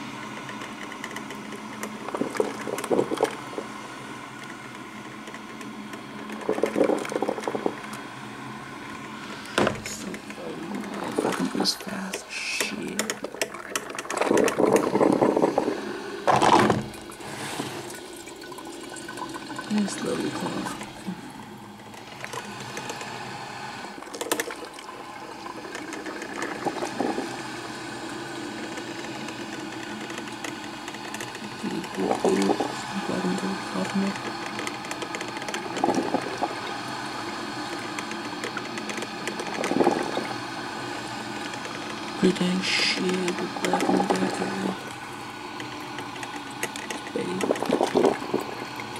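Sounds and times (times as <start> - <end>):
coffee maker gurgling and sputtering: 0.0 - 48.9.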